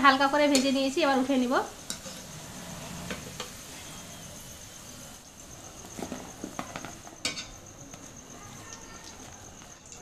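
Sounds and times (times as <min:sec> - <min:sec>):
fries sizzling in hot oil: 0:00.0 - 0:10.0.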